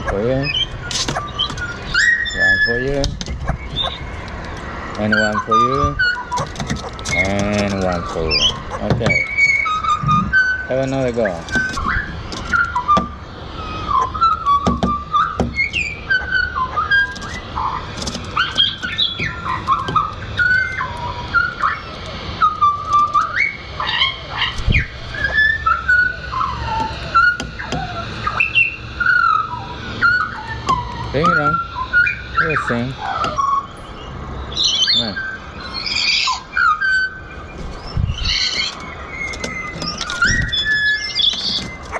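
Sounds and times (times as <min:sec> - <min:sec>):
birds whistling songs: 0:00.0 - 0:41.9.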